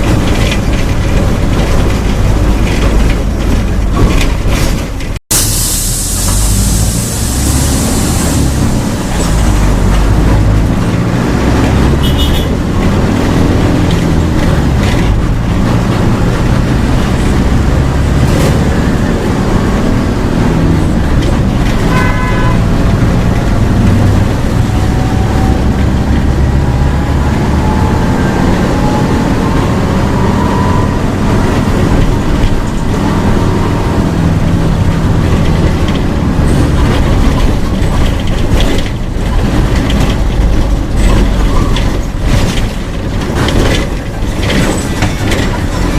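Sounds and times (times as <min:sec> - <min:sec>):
bus diesel engine droning: 0:00.0 - 0:45.9.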